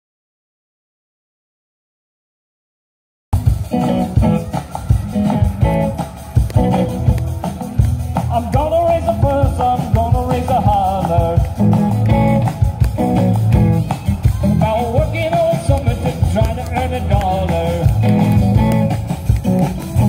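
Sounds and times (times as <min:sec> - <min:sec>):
electric guitar lead line: 0:03.4 - 0:20.0
rock and roll band: 0:03.4 - 0:20.0.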